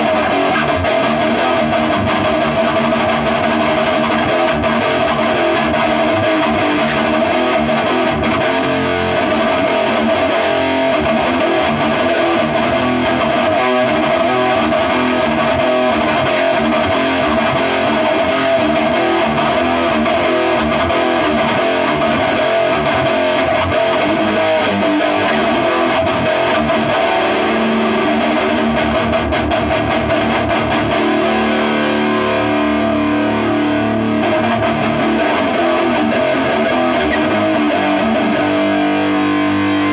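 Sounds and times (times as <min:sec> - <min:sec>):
electric guitar through amp: 0:00.0 - 0:39.9.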